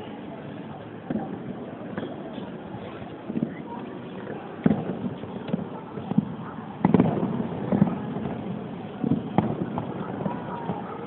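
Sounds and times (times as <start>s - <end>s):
fireworks bursting: 1.0s - 11.0s.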